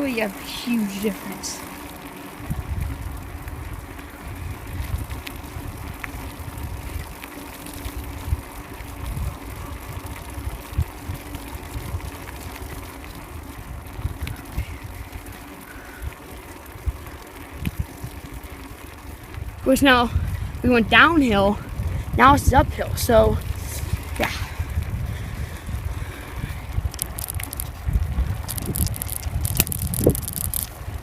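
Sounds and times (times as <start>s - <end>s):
bicycle tyres hissing on road: 0.0s - 31.0s
wind buffeting microphone: 2.2s - 31.0s.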